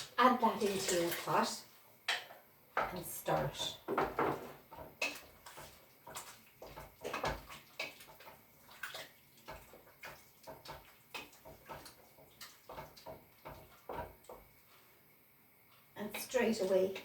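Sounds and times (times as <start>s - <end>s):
stew sloshing while stirred: 0.0s - 1.8s, 2.8s - 15.0s.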